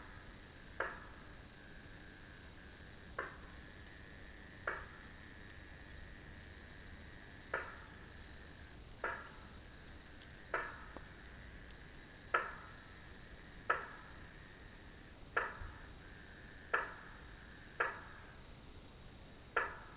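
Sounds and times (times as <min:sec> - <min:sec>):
frog calling in echoing tank: 0:00.0 - 0:18.5, 0:19.6 - 0:19.9.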